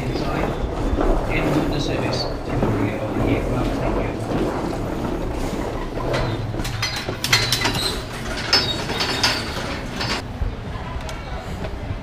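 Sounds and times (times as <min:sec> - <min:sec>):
footsteps: 0:00.0 - 0:10.2
suitcase wheels clattering on floor: 0:00.0 - 0:10.2
moving walkway humming: 0:00.0 - 0:12.0.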